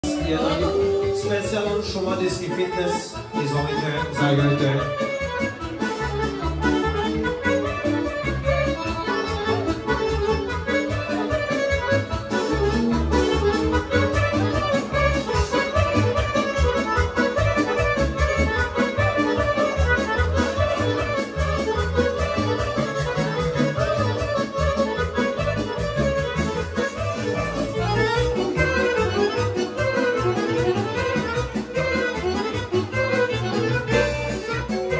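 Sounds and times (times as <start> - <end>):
accordion folk dance music: 0.0 - 34.9
pumping bass beat: 3.4 - 34.9.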